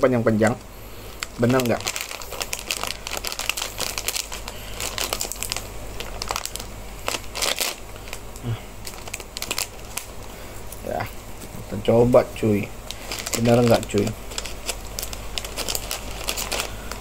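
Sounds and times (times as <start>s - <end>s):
plastic snack bag crinkling: 1.1s - 10.9s, 12.8s - 17.0s.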